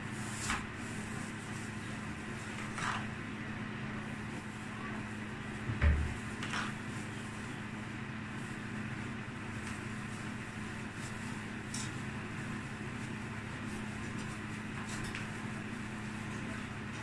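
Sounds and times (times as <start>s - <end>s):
plastic gloves crinkling: 0.0s - 16.9s
low mechanical hum: 0.0s - 17.0s.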